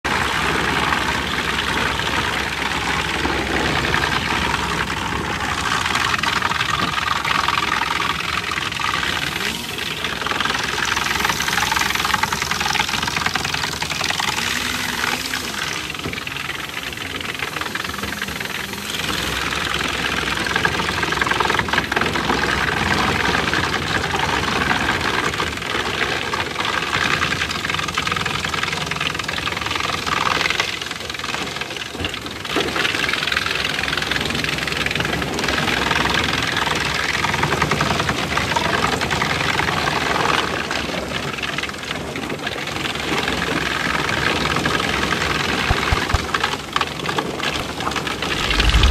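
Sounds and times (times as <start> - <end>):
wood chipper running: 0.0 - 48.9
belt conveyor: 0.1 - 39.8.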